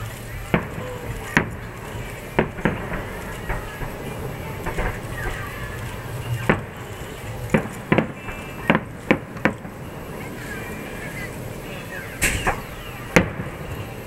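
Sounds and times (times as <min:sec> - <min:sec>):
firework shells bursting: 0:00.0 - 0:14.0.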